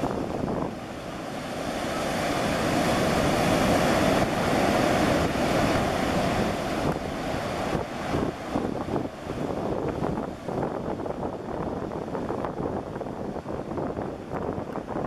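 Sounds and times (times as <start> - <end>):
sea surf washing ashore: 0.0 - 15.0
wind buffeting microphone: 0.0 - 15.0.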